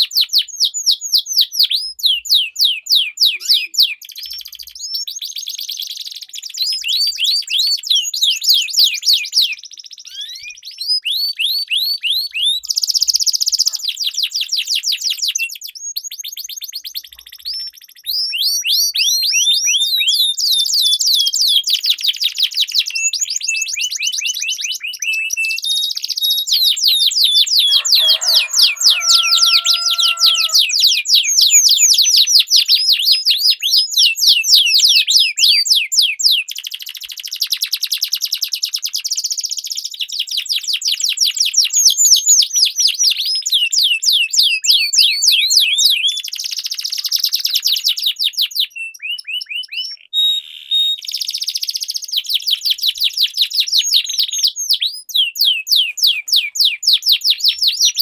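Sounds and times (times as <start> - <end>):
canaries singing trills: 0.0 - 40.4, 41.8 - 58.0.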